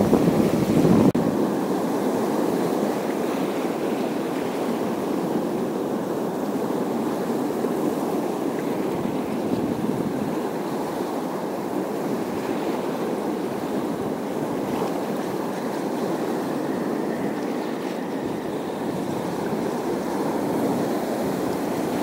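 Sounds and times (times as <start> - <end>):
waves washing on rocky shore: 0.0 - 22.0.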